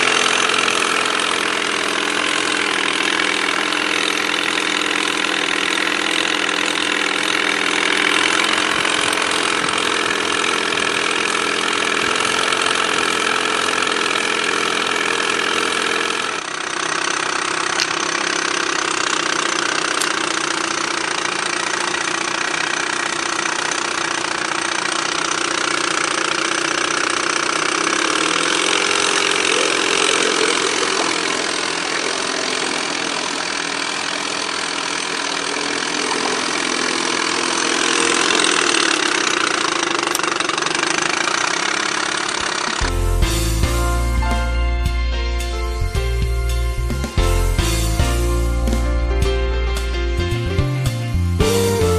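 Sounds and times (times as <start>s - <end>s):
outboard motor running: 0.0s - 51.9s.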